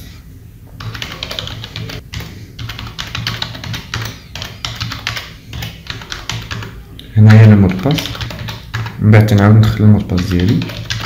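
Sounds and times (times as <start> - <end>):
typing on computer keyboard: 0.8 - 11.0.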